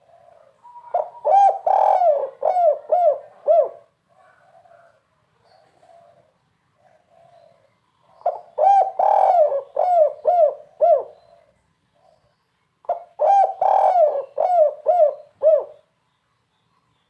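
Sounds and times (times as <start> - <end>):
dove cooing: 0.0 - 12.2, 12.9 - 15.9.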